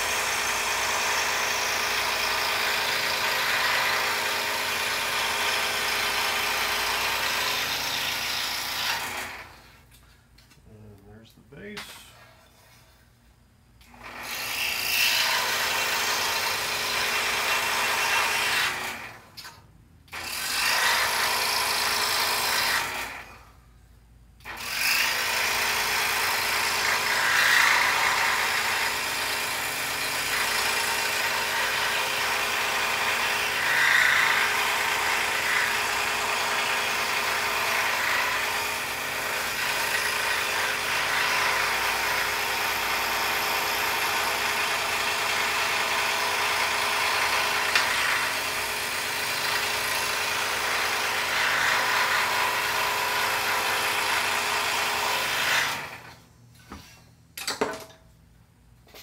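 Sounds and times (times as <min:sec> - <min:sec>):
scroll saw cutting wood: 0:00.0 - 0:09.8, 0:13.8 - 0:19.1, 0:20.1 - 0:23.4, 0:24.4 - 0:56.2.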